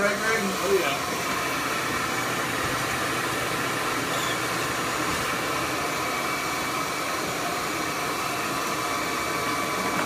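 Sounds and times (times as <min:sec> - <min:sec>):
bee vacuum running: 0:00.0 - 0:10.0.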